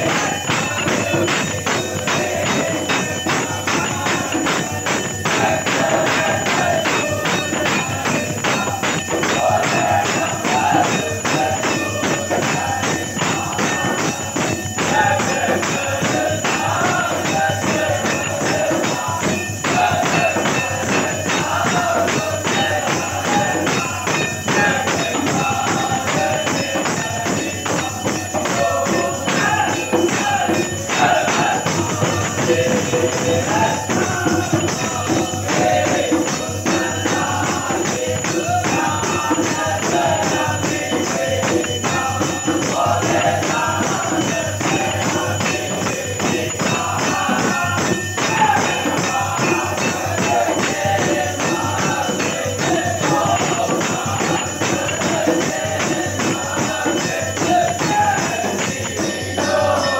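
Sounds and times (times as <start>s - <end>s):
bells jingling and ringing: 0.0s - 59.9s.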